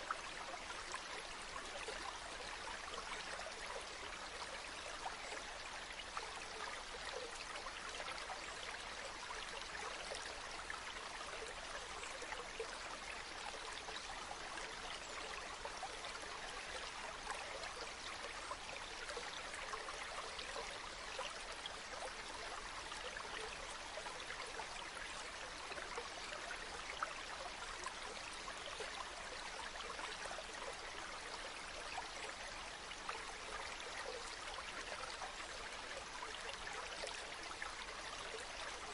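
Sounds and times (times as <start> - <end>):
stream water gurgling: 0.0 - 38.9.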